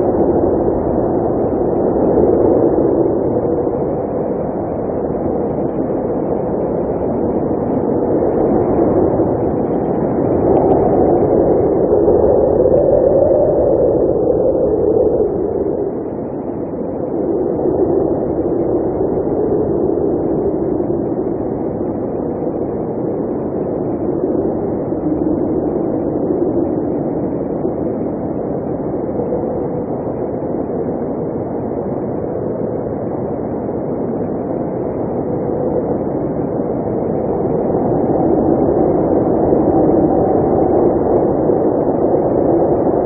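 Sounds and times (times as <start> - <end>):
blizzard wind blowing: 0.0 - 43.0.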